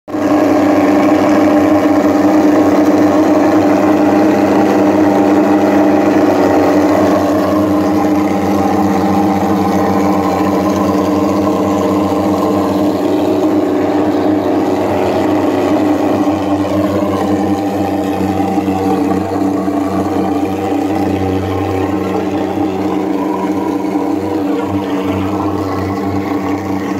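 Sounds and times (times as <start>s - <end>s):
fogging machine drone: 0.1s - 26.9s.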